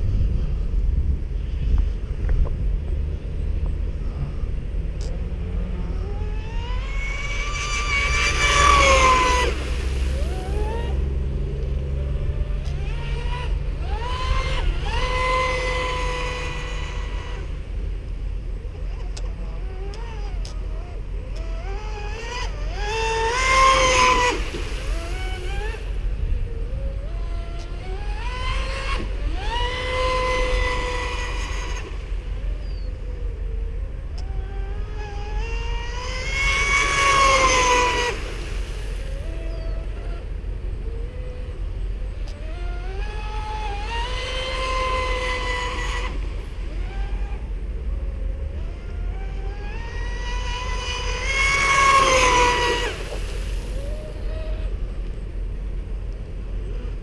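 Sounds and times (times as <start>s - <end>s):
electric boat motor whining: 3.1s - 57.0s.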